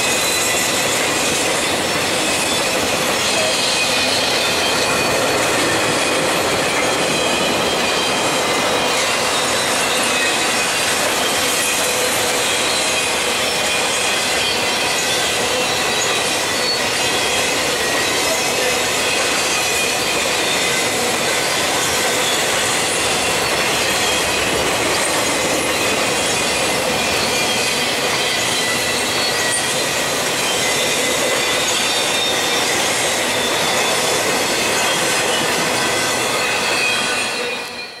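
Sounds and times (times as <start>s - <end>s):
freight train rumbling: 0.0s - 38.0s
train wheels squealing: 0.0s - 38.0s.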